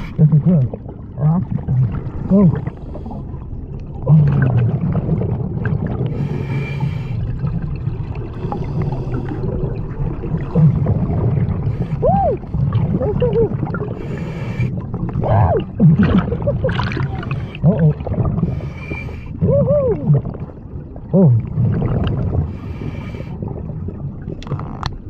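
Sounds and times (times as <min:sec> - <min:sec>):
exhaled bubbles gurgling underwater: 0:00.0 - 0:25.0.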